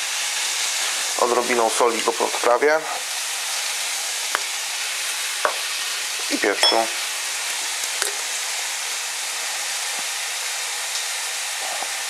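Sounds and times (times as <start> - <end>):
chicken sizzling on a grill pan: 0.0 - 12.0.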